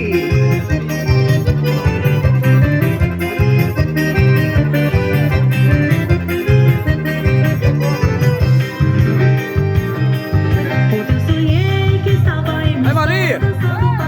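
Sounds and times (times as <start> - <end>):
instrumental keyboard and guitar music: 0.0 - 14.0.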